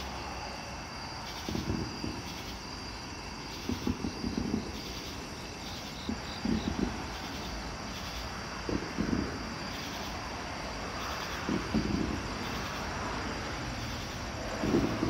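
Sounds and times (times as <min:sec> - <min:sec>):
insects chirping: 0:00.0 - 0:15.0
wind gusts on microphone: 0:00.8 - 0:15.0.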